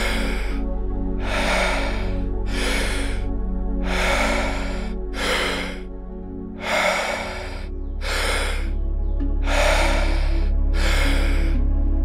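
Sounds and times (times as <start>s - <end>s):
person breathing deeply: 0.0s - 11.7s
ambient music drone: 0.0s - 12.0s.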